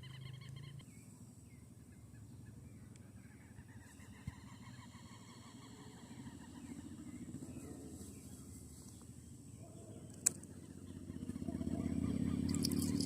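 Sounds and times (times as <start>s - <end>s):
engine with fast low pulse: 0.0s - 13.0s.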